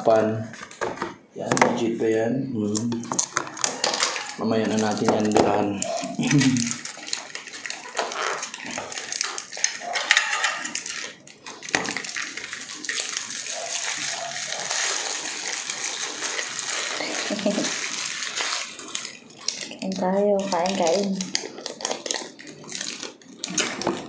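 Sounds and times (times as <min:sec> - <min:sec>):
paper wrapper crinkling: 0:00.0 - 0:24.0
fried chicken tearing crackle: 0:02.7 - 0:24.0.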